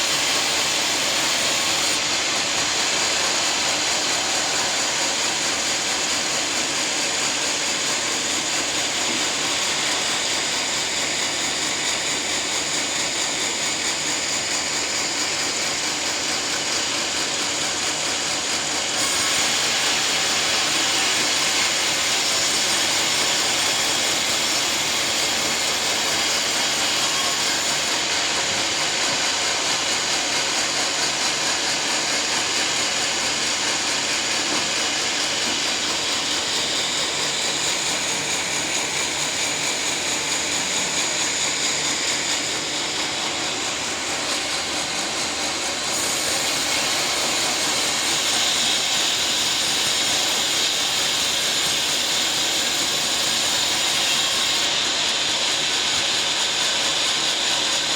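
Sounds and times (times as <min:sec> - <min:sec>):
sawmill blade sawing log: 0:00.0 - 0:57.9.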